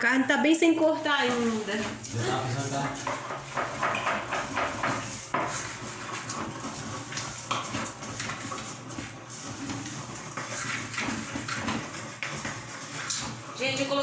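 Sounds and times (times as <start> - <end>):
pots and dishes clinking: 1.2 - 14.0.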